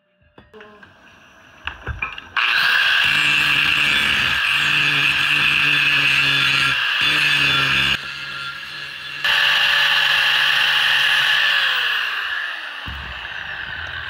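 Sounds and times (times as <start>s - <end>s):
angle grinder grinding steel: 0.6s - 14.0s.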